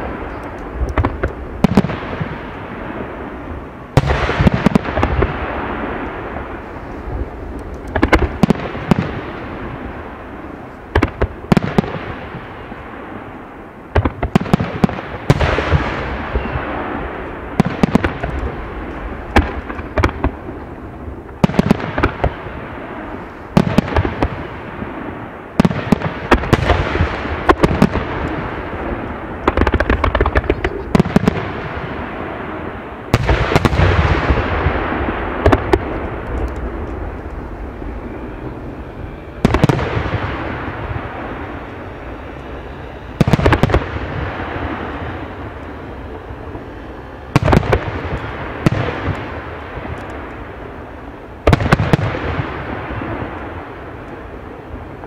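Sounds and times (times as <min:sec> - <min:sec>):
fireworks bursting with echo: 0:00.0 - 0:55.0.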